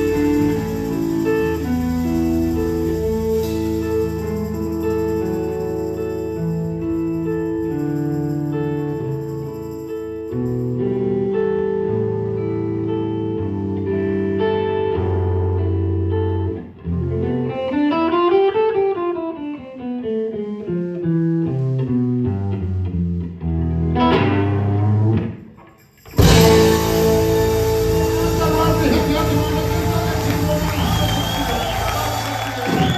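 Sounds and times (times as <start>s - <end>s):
slow blues guitar: 0.0s - 32.9s.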